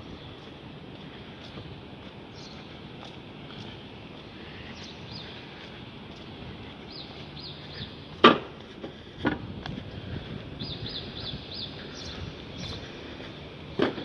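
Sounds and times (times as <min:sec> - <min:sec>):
small birds chirping: 0:00.0 - 0:14.0
steady city hum: 0:00.0 - 0:14.0.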